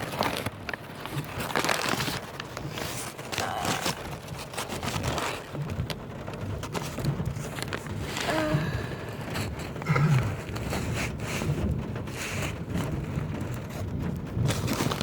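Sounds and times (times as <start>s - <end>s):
clicks and scrapes: 0.0s - 8.3s, 9.2s - 15.0s
rain beating down: 0.0s - 15.0s.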